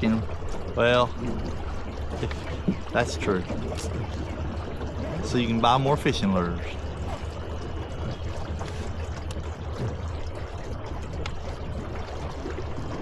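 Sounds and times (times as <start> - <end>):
boat engine low rumble: 0.0 - 13.0
water splashing along hull: 0.0 - 13.0.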